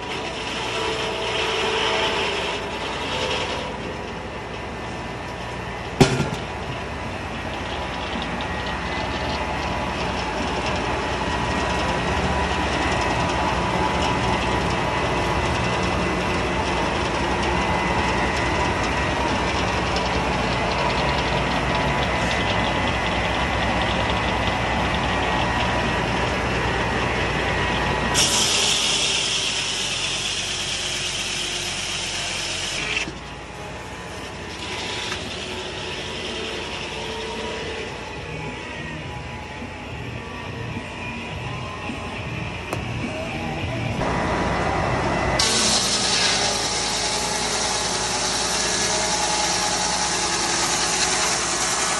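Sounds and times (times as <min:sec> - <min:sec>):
sawmill clattering: 0:00.0 - 0:38.5, 0:44.0 - 0:51.9.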